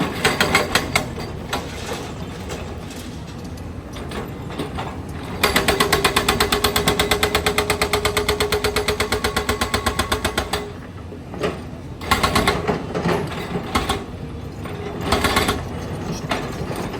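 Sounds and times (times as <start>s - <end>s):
road-work machinery knocks and clanks: 0.0s - 16.9s.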